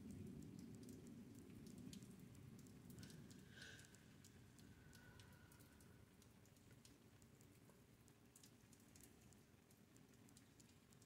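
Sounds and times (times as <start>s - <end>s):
low steady background noise: 0.0s - 11.0s
raindrops pattering: 0.0s - 11.0s.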